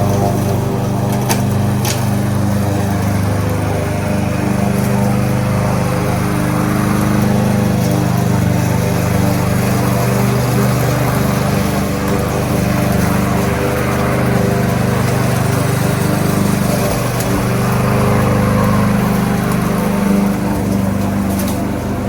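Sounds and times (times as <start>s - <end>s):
lawnmower engine running: 0.0s - 22.0s.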